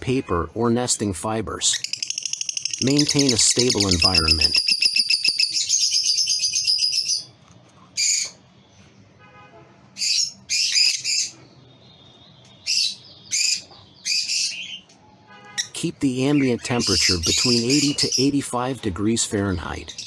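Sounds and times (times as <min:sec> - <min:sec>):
lovebirds chirping: 0:00.0 - 0:08.9, 0:10.0 - 0:18.7, 0:19.3 - 0:20.0.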